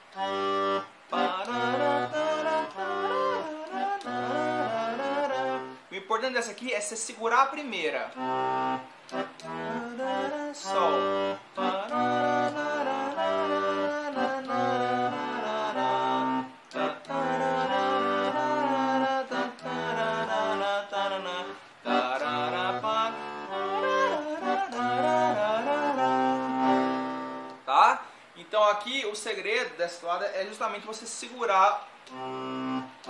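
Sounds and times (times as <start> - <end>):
accordion bass and chords: 0.0 - 28.8, 30.4 - 33.0.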